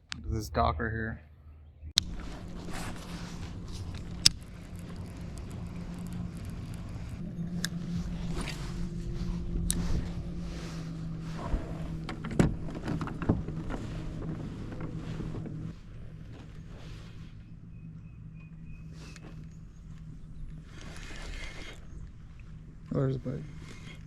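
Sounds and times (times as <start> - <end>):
small boat motor humming: 1.9 - 24.0.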